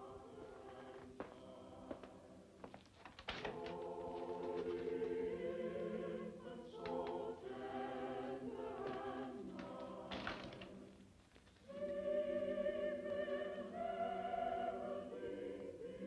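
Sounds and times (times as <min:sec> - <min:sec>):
choir singing sustained chords: 0:00.0 - 0:02.6, 0:03.4 - 0:16.0.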